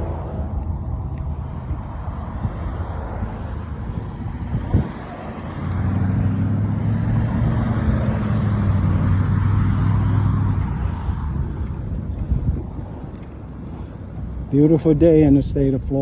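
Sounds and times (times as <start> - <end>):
road and wind noise: 0.0 - 16.0
vehicle engine humming: 0.0 - 16.0.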